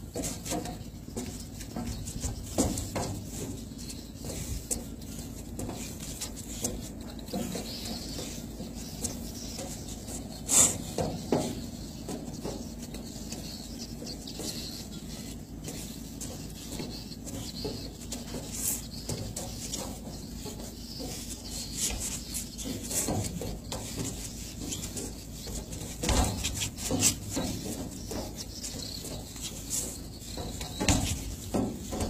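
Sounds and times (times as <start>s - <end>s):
footsteps on deck: 0.0s - 32.0s.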